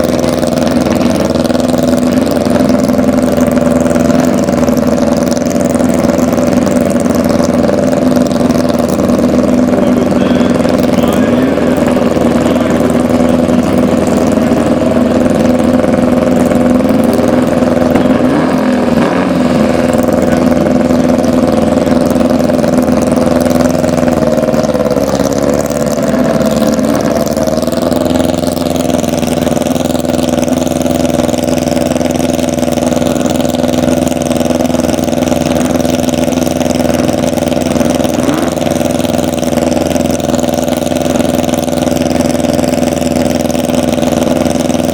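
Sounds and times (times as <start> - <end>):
car engine idling loudly: 0.0 - 44.9.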